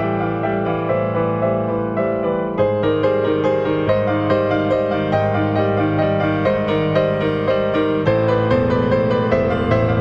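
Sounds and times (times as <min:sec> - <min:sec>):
soft piano melody: 0:00.0 - 0:10.0.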